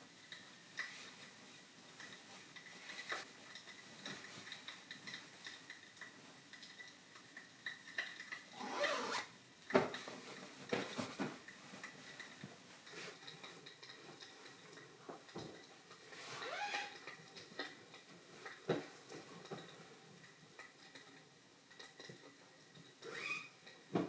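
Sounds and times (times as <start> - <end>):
objects clicking and tapping: 0.3 - 8.5, 9.6 - 24.0.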